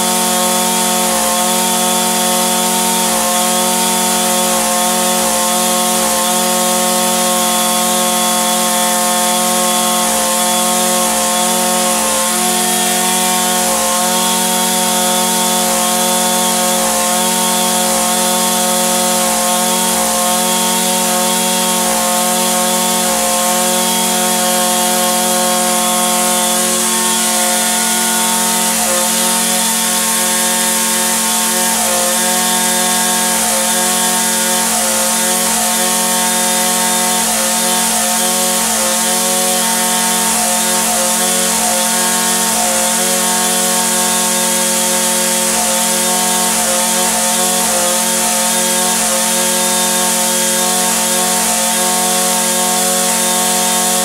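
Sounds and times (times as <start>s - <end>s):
string trimmer engine running: 0.0s - 54.0s.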